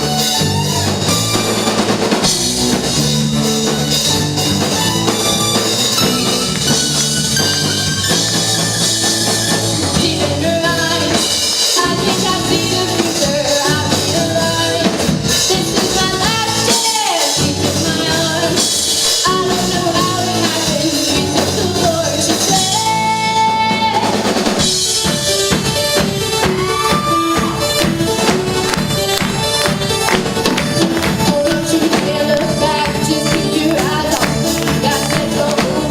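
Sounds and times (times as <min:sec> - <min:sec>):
drum kit beat: 0:00.0 - 0:35.9
live band playing: 0:00.0 - 0:35.9.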